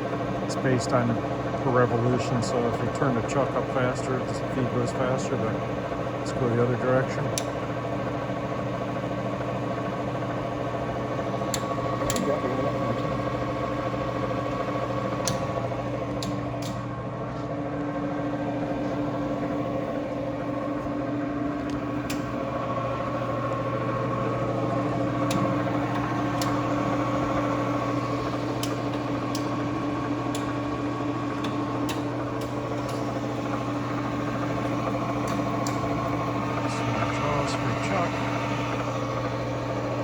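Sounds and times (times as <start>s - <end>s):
lathe gear and motor hum: 0.0s - 40.0s
steady whining tones: 0.0s - 40.0s.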